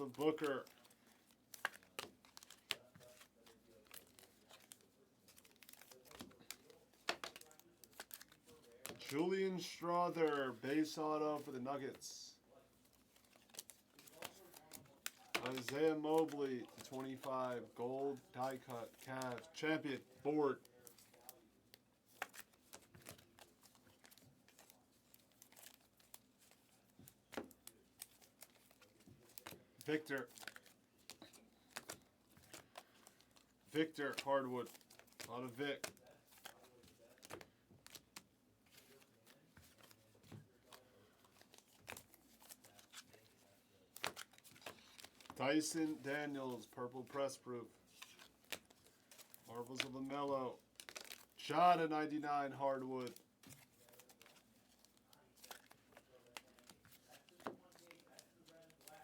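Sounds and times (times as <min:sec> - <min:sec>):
foil packs crinkling: 0:00.0 - 0:59.0.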